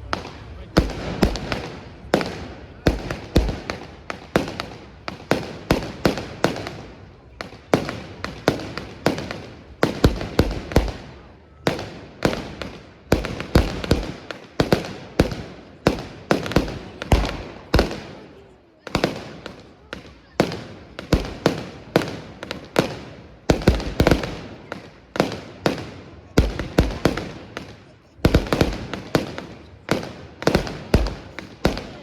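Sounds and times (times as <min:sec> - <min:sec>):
fireworks bursting with bangs: 0:00.0 - 0:32.0.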